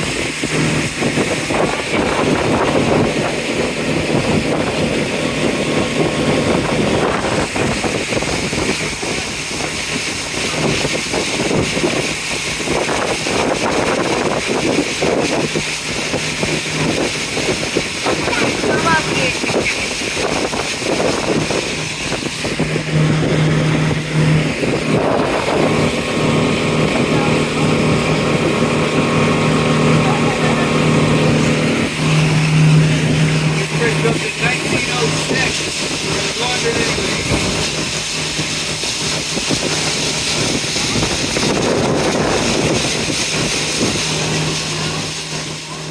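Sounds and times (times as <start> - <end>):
boat engine humming: 0.0 - 45.9
water rushing: 0.0 - 45.9
wind noise: 0.0 - 45.9.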